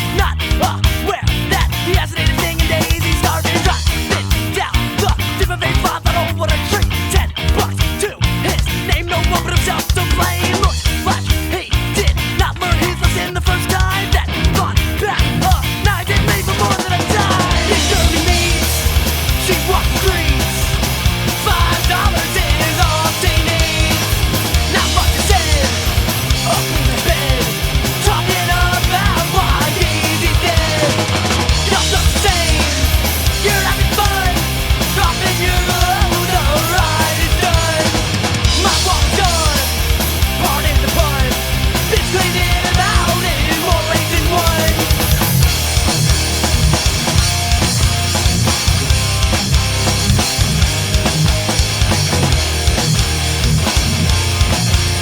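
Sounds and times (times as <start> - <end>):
loud rock music: 0.0 - 55.0.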